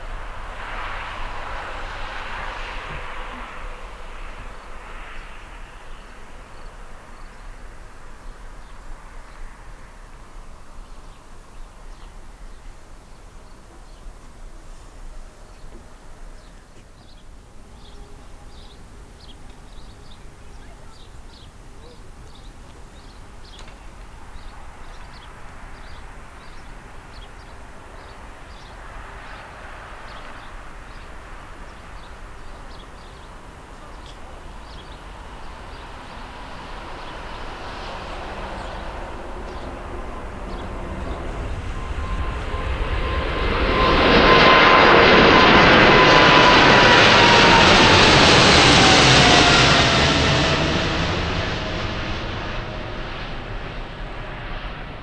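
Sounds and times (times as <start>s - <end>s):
airliner passing by: 0.0s - 55.0s.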